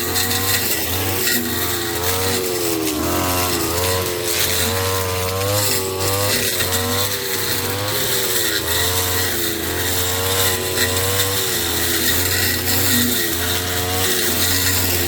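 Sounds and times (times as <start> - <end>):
brush cutter engine: 0.0 - 15.0.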